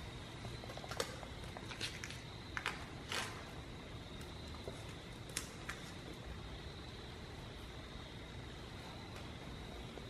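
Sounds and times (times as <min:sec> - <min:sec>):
faint high-pitched hum: 0:00.0 - 0:10.0.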